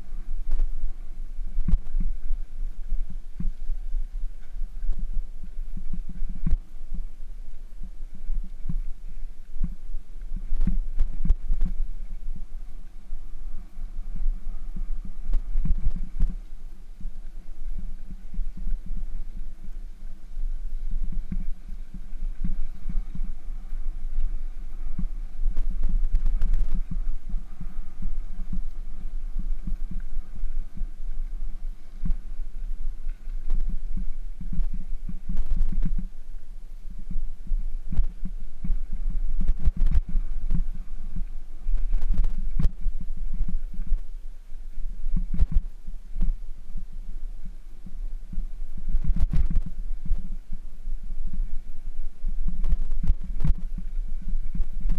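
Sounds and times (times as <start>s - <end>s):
wind on microphone: 0.0s - 54.9s.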